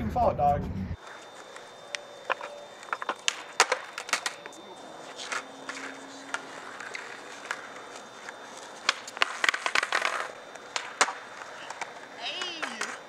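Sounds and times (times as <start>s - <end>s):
skateboard wheels rolling: 1.0s - 13.0s
skateboards clacking on ground: 1.1s - 13.0s.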